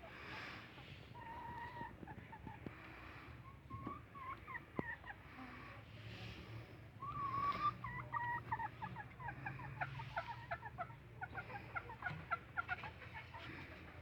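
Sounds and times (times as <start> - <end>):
hens cackling and clucking: 0.0 - 5.4, 7.0 - 14.0.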